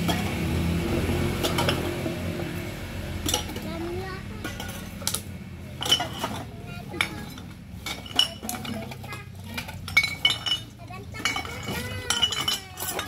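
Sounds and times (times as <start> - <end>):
glass bottles clinking: 0.0 - 0.4, 1.4 - 2.2, 3.2 - 5.2, 5.8 - 13.0.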